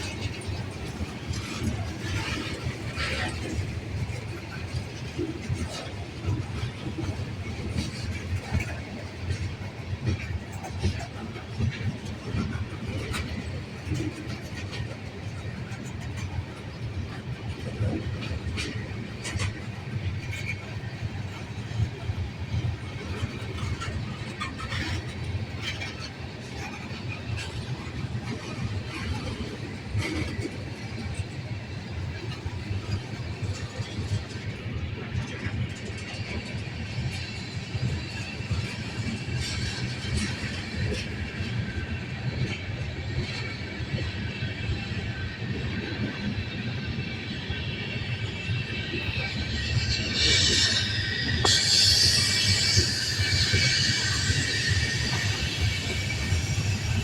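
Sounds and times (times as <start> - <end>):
train clicks and squeaks: 0.0 - 57.0
train rumbling past: 0.0 - 57.0.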